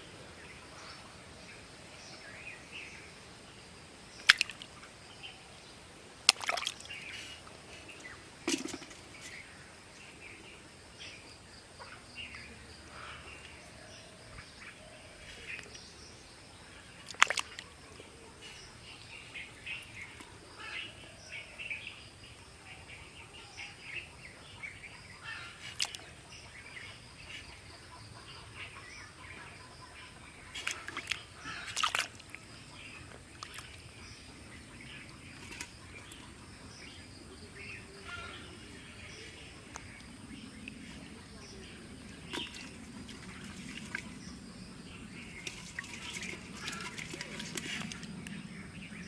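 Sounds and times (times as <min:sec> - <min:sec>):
small birds chirping: 0:04.1 - 0:49.0.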